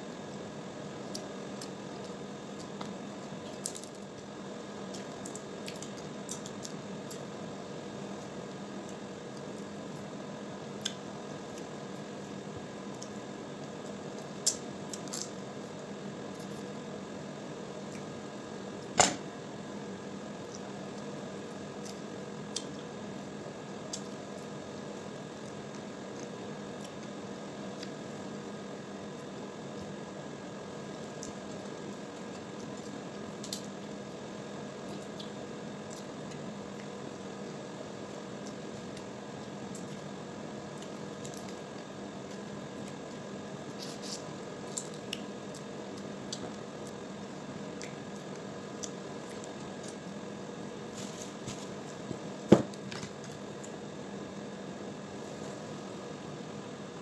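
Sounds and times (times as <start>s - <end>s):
background hum: 0.0s - 57.0s.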